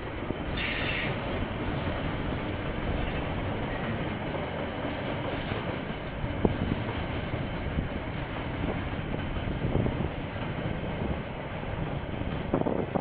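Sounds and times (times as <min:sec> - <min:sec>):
train wagons rumbling past: 0:00.0 - 0:13.0.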